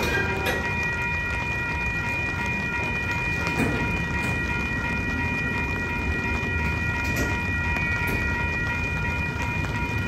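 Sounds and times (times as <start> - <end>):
freight cars rumbling on rails: 0.0 - 10.0.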